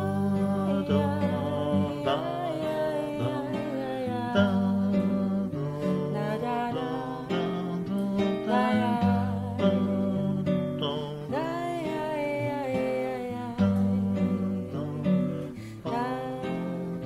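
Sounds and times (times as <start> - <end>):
classical guitar plucked and strummed: 0.0 - 17.0
voices singing wordless melody: 0.0 - 17.0.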